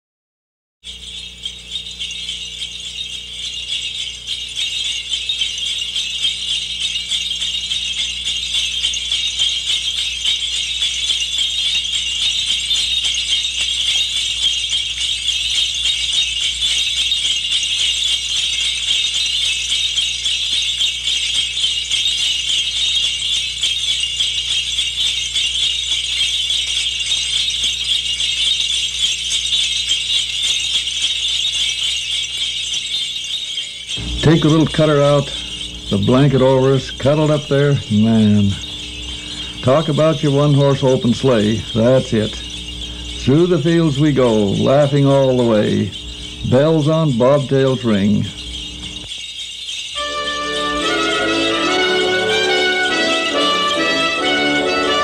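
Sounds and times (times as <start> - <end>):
sleigh bells jingling: 0.9 - 55.0.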